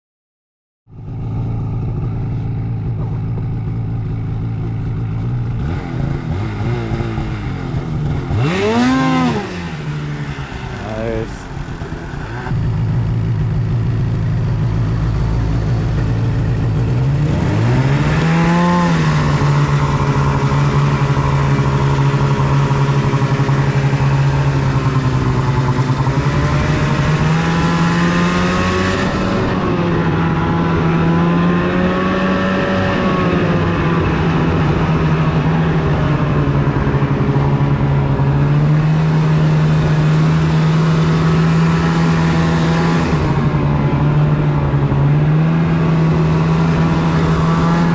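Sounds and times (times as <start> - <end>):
snowmobile engine revving: 1.2 - 47.9.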